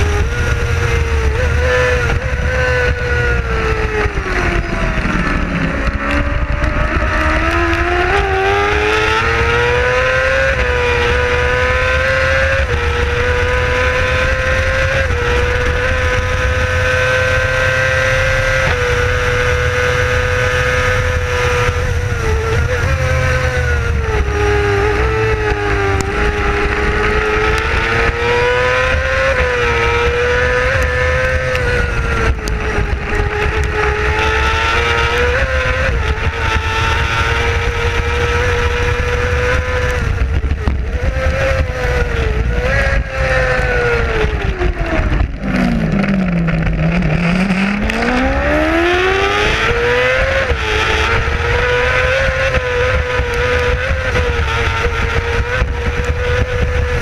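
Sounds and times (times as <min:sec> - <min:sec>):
low wind rumble: 0:00.0 - 0:57.0
racing engine at high revs: 0:00.0 - 0:57.0.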